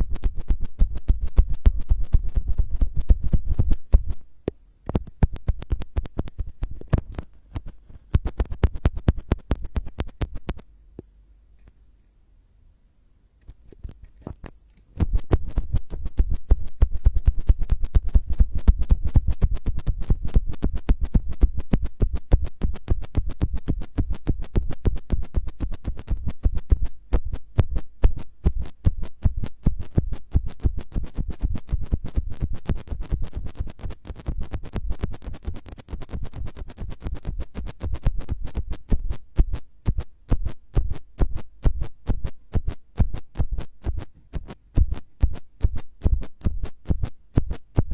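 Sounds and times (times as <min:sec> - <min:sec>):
scratching on microphone: 0:00.0 - 0:10.7, 0:13.4 - 0:47.9.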